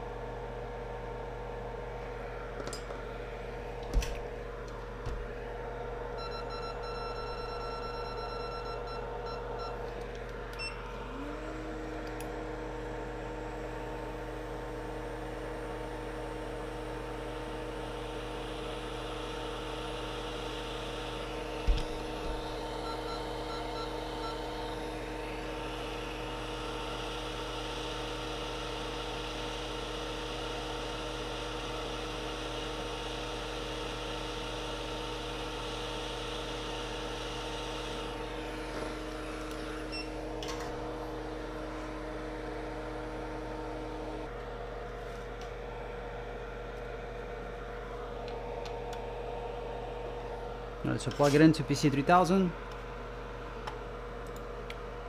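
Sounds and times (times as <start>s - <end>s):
hot air station hum and whine: 0.0s - 55.0s.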